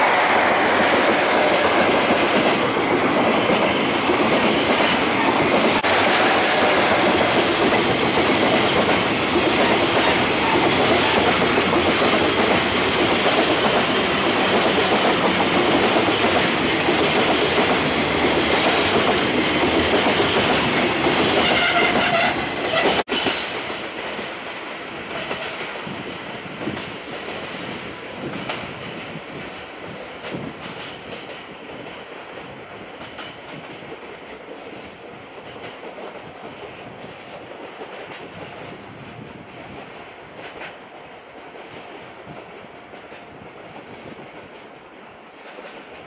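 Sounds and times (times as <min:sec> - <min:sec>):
train wheels clattering: 0:00.6 - 0:46.0.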